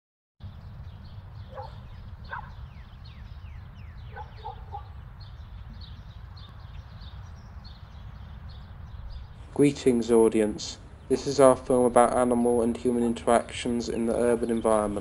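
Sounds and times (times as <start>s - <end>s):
birds chirping: 0.4s - 15.0s.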